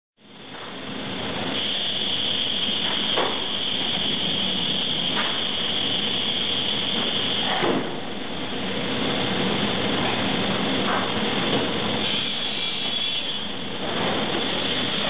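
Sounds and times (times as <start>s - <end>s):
machine hiss with high whine: 0.2s - 15.0s.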